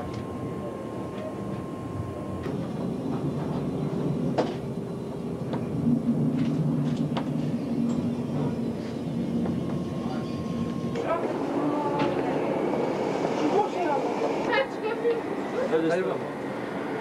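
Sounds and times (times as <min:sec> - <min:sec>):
low hum: 0:00.0 - 0:15.5
train running rumble: 0:00.0 - 0:17.0.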